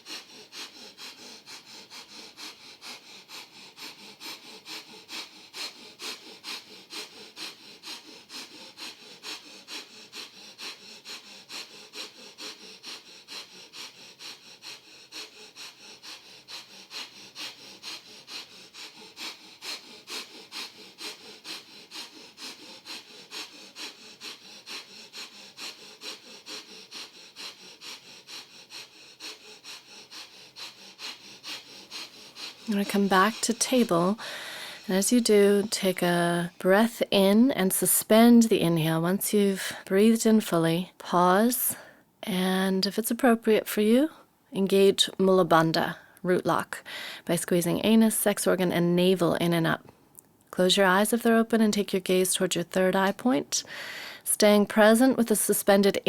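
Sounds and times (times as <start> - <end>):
person breathing rapidly through nose: 0.0 - 42.2, 45.9 - 46.2, 46.8 - 47.6, 53.1 - 56.0.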